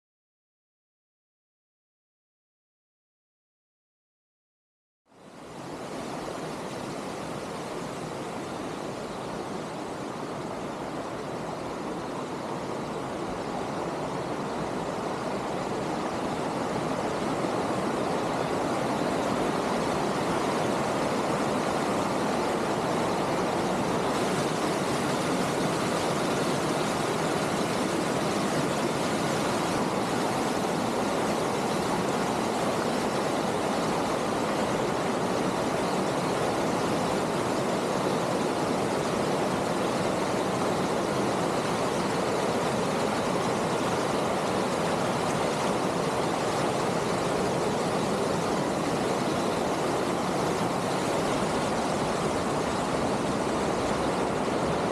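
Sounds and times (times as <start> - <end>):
steady rushing noise: 5.1 - 54.9.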